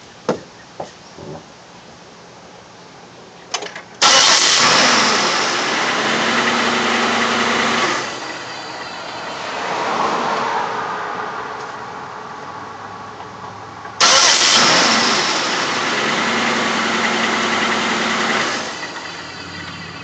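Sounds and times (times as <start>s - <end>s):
car engine starting and idling: 3.6s - 20.0s.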